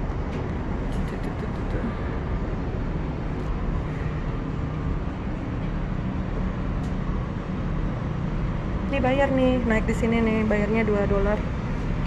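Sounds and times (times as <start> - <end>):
cable car cabin rumble and hiss: 0.0 - 12.0.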